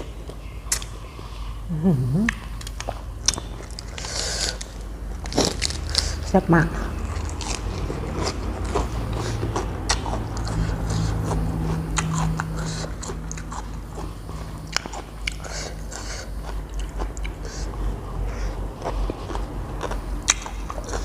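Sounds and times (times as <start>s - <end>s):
low steady hum: 0.0s - 21.0s
chewing with crunches: 2.3s - 21.0s.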